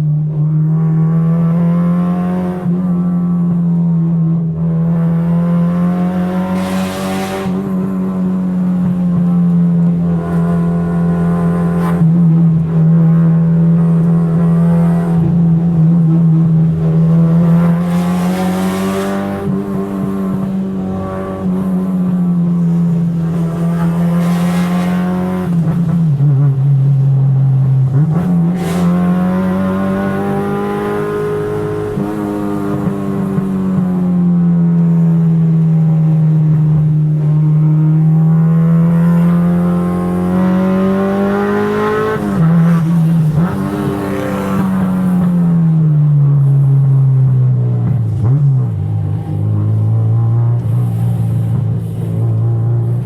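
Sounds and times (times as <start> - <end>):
car engine revving under load: 0.8 - 53.0.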